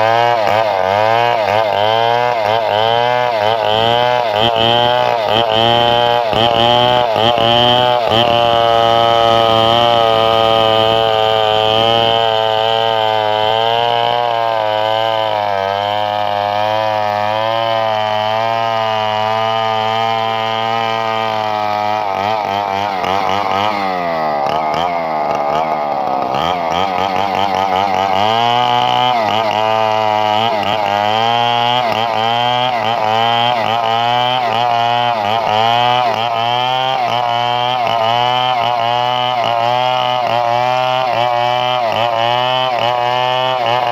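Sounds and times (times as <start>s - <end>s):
chainsaw engine running: 0.0s - 43.9s.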